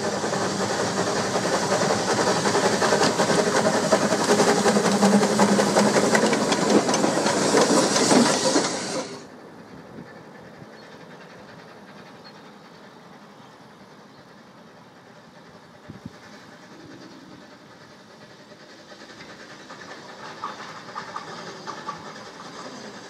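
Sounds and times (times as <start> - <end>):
steam locomotive running and hissing: 0.0 - 23.0.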